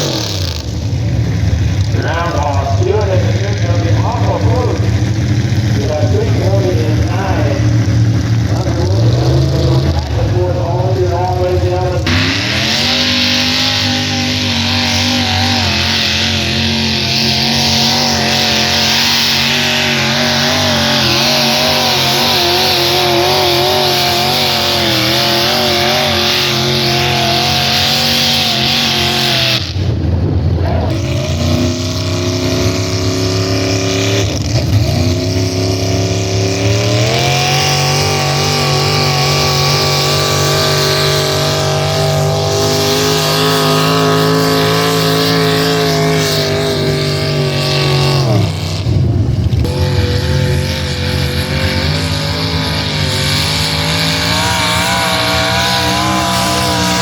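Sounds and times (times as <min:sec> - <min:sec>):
engine running under load: 0:00.0 - 0:57.0.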